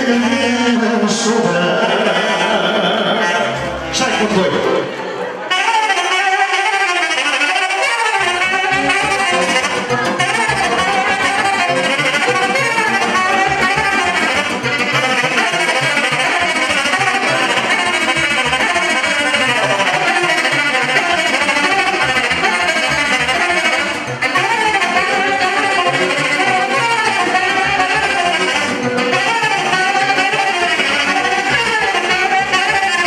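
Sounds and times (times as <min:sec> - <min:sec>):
saxophones playing melody: 0:01.4 - 0:33.0.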